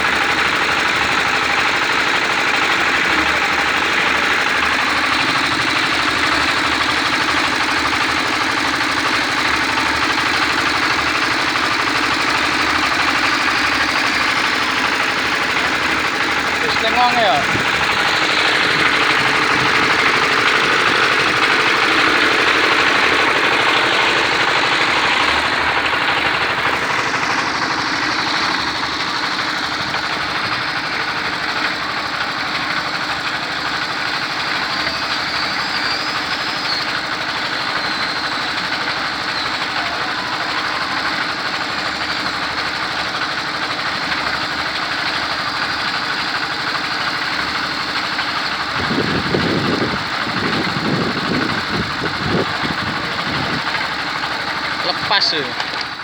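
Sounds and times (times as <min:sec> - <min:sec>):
toy excavator motors whirring: 0:00.0 - 0:56.0.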